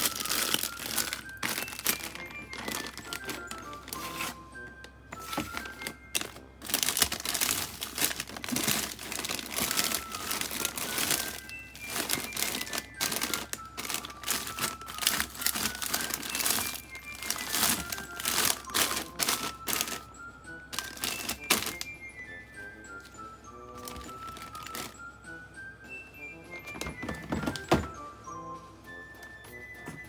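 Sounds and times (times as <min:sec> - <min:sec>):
plastic packaging crinkling: 0:00.0 - 0:21.9, 0:23.7 - 0:25.1, 0:26.7 - 0:27.9
light background music: 0:00.0 - 0:30.0.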